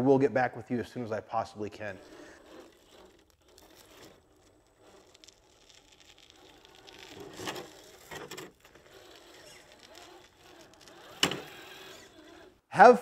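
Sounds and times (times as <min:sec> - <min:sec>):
toy car scraping on rock: 0:00.5 - 0:12.6.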